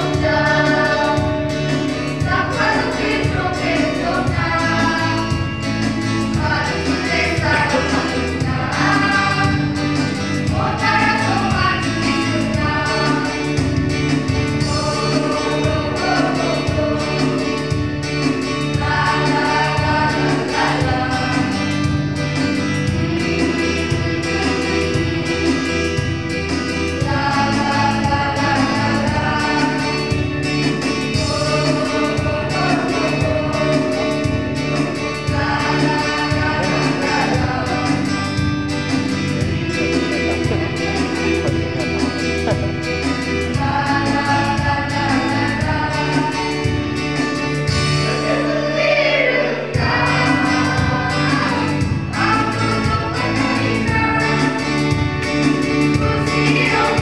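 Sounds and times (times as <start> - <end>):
steady backing beat: 0.0 - 48.4, 49.8 - 57.0
group singing gospel song: 0.0 - 57.0.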